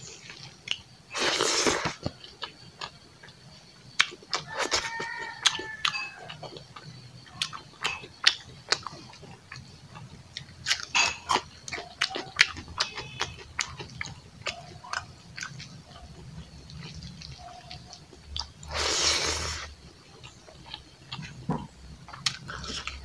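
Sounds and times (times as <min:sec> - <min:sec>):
chewing and lip-smacking: 0:00.2 - 0:00.9, 0:01.8 - 0:18.8, 0:19.5 - 0:23.0.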